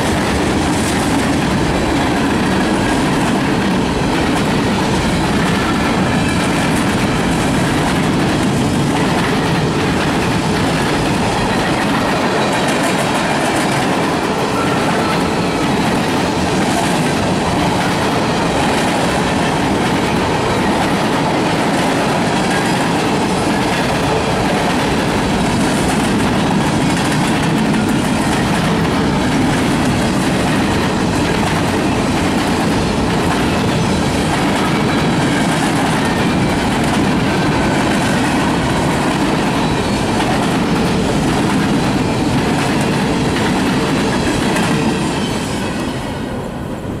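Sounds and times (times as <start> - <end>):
wheels clattering on rails: 0.0 - 45.8.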